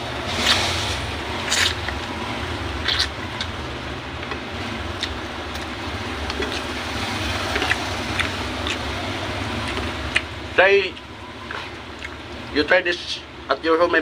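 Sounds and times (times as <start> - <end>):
background rumble and hiss: 0.0 - 14.0.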